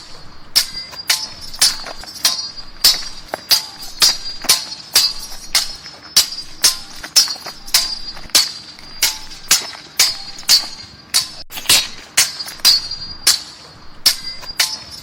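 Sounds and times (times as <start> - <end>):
steel swords clashing: 0.0 - 15.0.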